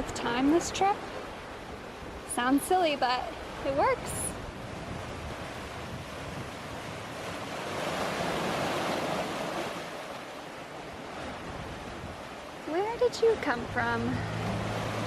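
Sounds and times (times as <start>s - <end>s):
ocean waves rushing past hull: 0.0s - 15.0s
wind: 0.0s - 15.0s.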